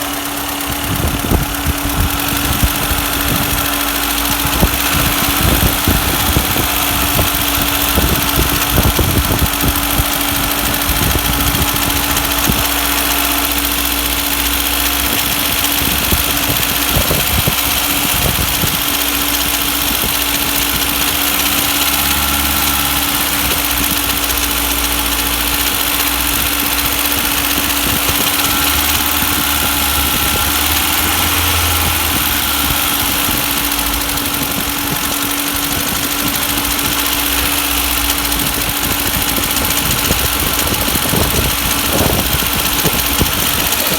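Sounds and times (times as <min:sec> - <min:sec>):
car engine idling: 0:00.0 - 0:43.9
irregular engine knock: 0:00.0 - 0:43.9.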